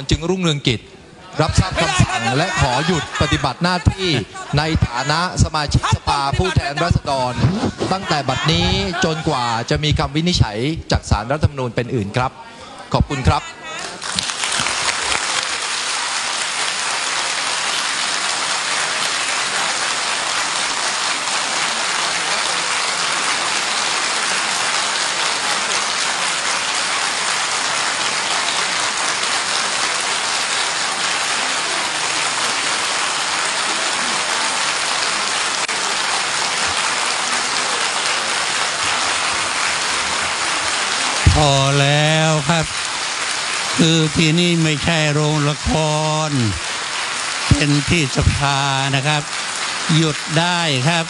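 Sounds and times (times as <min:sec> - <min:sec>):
large crowd applauding: 0:01.4 - 0:10.5, 0:13.0 - 0:51.0.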